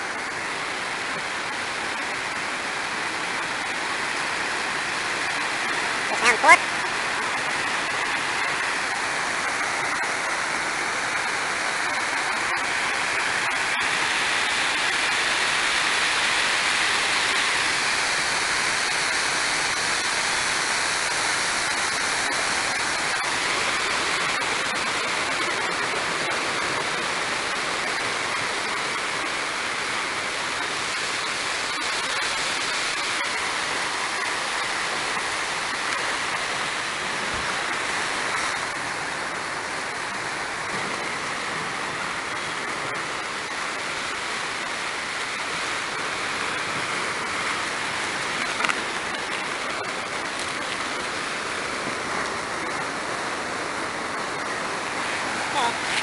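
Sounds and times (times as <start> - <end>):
roar of rushing seawater: 0.0 - 56.0.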